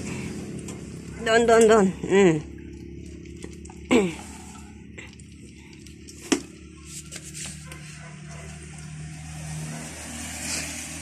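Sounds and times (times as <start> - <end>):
low steady hum: 0.0 - 9.3
kittens eating dry kibble: 0.0 - 11.0.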